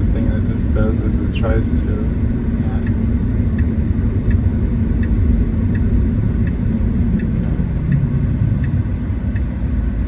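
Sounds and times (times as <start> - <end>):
road and tyre rumble: 0.0 - 10.0
turn signal ticking: 0.0 - 10.0.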